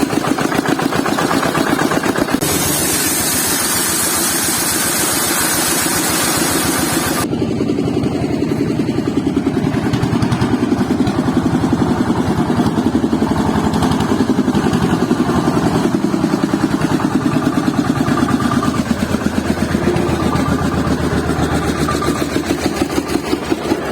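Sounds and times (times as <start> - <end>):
motor pulsing steadily: 0.0 - 7.5, 12.1 - 23.9.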